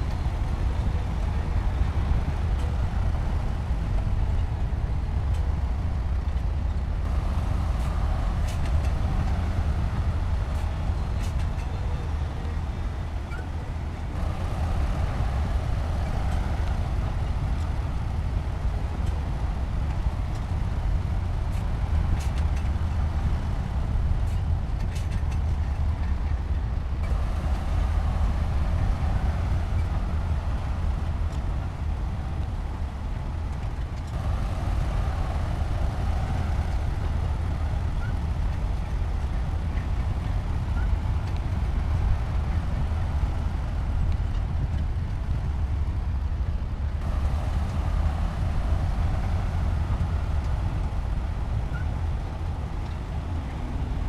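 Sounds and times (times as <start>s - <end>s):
diesel machinery rumbling: 0.0s - 54.0s.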